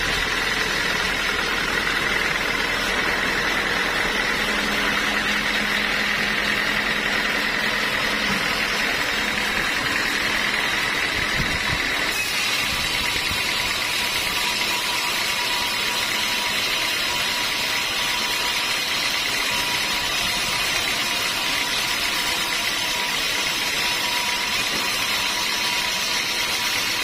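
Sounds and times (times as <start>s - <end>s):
sawmill machinery running: 0.0s - 27.0s.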